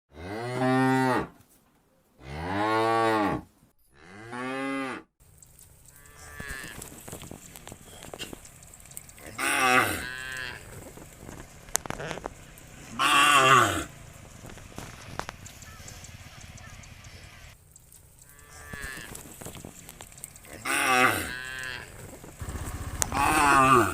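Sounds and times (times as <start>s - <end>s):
cows mooing: 0.1s - 1.3s, 4.0s - 5.1s, 5.9s - 17.5s, 18.2s - 23.9s.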